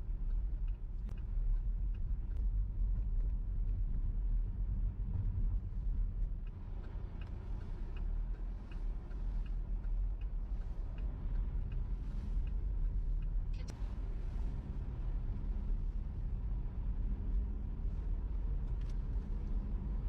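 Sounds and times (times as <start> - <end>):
car engine and tyres rumbling: 0.0 - 20.0
turn signal ticking: 0.0 - 20.0.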